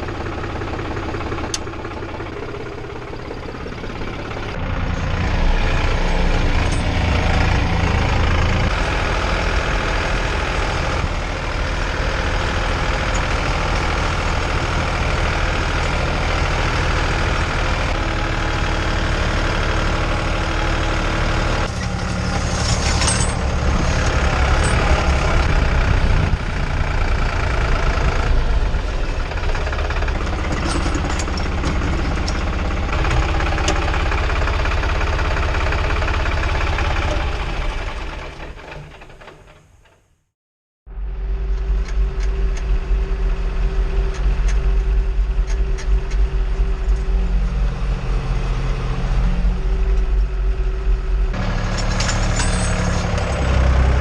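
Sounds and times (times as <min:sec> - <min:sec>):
tractor diesel engine running: 0:00.0 - 0:40.0, 0:40.9 - 0:54.0.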